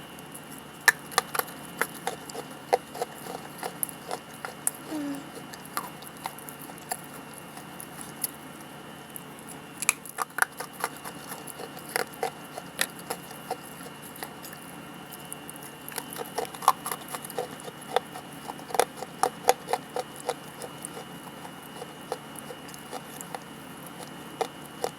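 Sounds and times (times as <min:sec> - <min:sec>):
clay crunching while chewed: 0:00.1 - 0:24.9.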